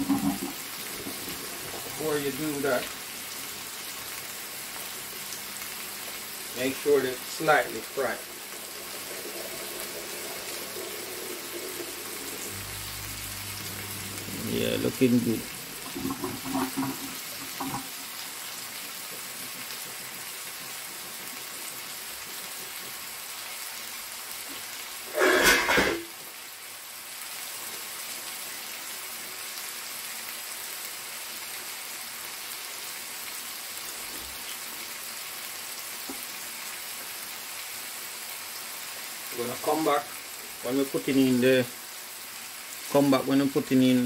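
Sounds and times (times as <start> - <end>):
chicken sizzling in oil: 0.0 - 44.0.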